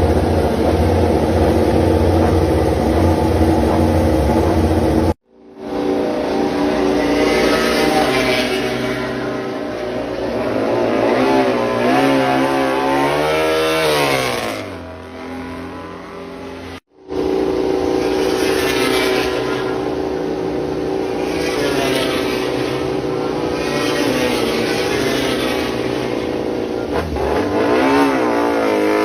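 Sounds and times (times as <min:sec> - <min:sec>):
racing motorcycle engines revving: 0:00.0 - 0:29.0.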